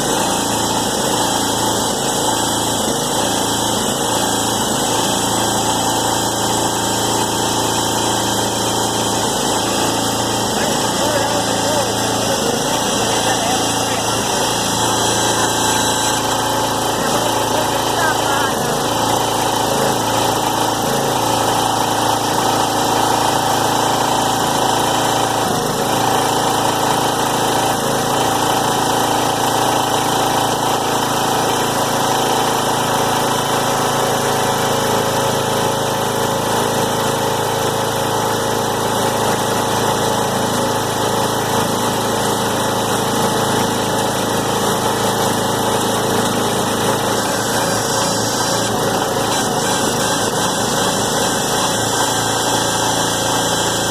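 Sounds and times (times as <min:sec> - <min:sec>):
small gasoline engine running: 0:00.0 - 0:53.9.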